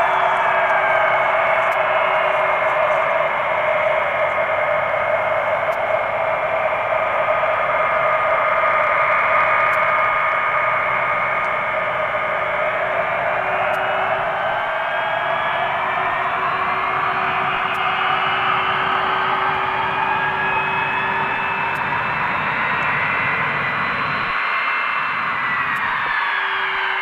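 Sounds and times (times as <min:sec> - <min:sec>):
high jet whine: 0:00.0 - 0:27.0
jet engines roaring: 0:00.0 - 0:27.0.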